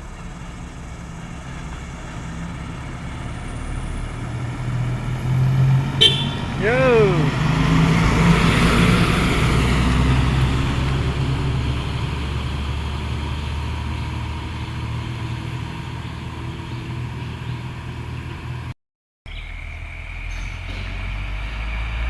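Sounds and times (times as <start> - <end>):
truck diesel engine running: 0.0 - 18.7.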